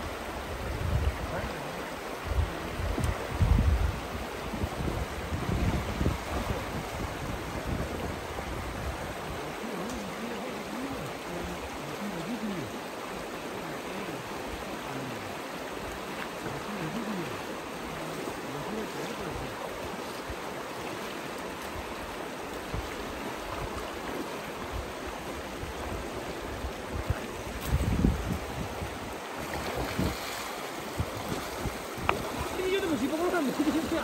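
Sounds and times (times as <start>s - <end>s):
stream rushing over stones: 0.0s - 34.0s.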